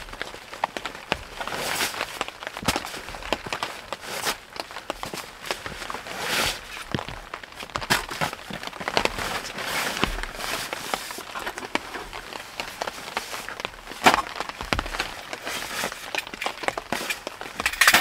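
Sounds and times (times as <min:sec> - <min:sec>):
nylon fabric rustling: 0:00.0 - 0:17.9.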